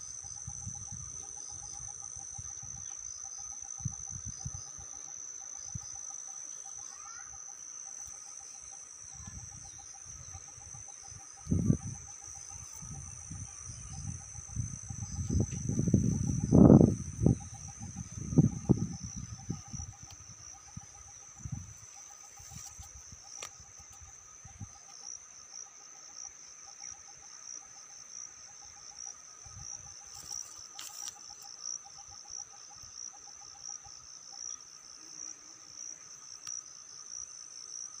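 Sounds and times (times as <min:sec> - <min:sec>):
insects trilling: 0:00.0 - 0:38.0
low rapid insect chirping: 0:00.0 - 0:38.0.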